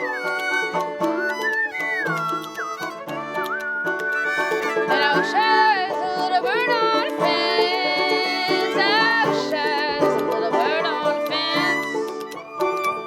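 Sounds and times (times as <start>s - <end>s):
banjo picking: 0.0s - 13.0s
fiddle melody: 0.0s - 13.0s.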